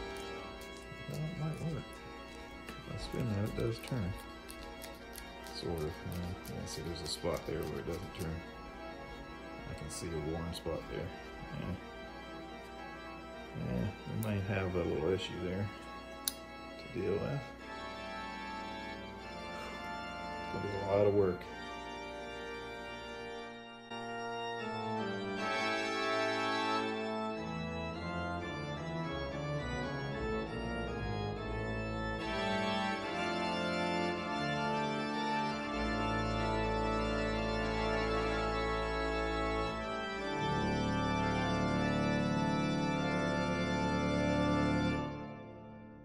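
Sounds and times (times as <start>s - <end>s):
organ music: 0.0s - 46.0s.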